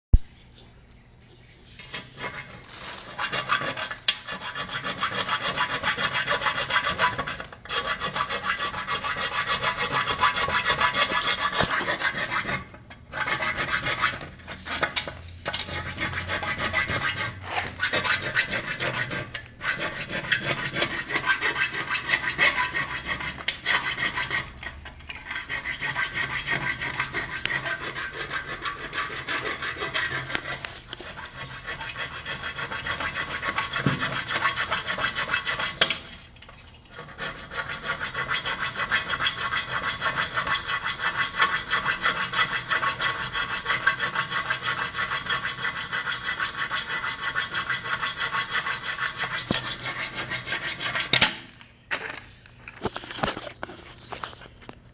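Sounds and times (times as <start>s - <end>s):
hacksaw cutting metal: 1.8s - 36.2s, 36.9s - 51.5s.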